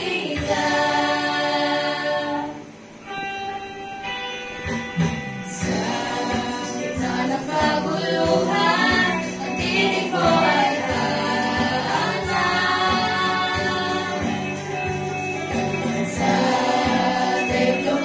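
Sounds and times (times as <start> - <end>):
group singing through microphones: 0.0 - 2.9, 5.0 - 18.0
instrumental accompaniment with beat: 3.4 - 18.0.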